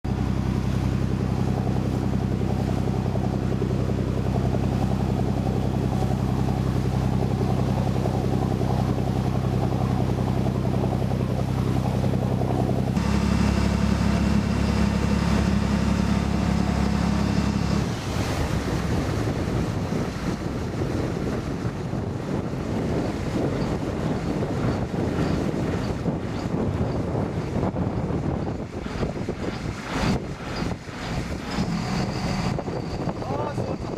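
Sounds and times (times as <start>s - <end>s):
choppy water wash: 0.0s - 33.9s
boat engine humming: 0.1s - 33.9s
wind on microphone: 0.1s - 33.9s.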